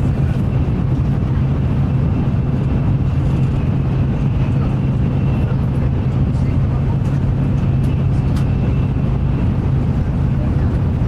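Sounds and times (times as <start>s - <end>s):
high-speed train rumbling: 0.0s - 11.0s.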